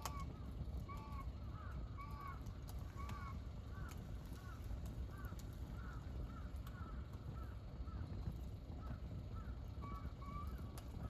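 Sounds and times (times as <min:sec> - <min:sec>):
campfire crackling and popping: 0:00.0 - 0:09.4, 0:10.4 - 0:11.0.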